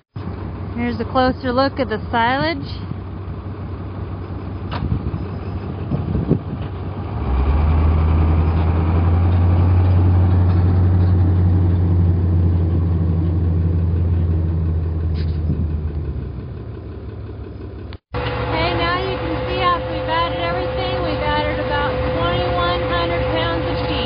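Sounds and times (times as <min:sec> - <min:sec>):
heavy vehicle engine running: 0:00.2 - 0:24.0.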